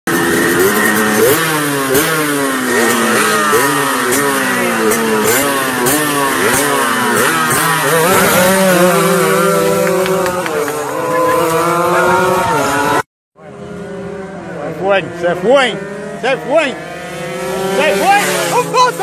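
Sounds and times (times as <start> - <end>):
motorcycles revving: 0.1 - 19.0.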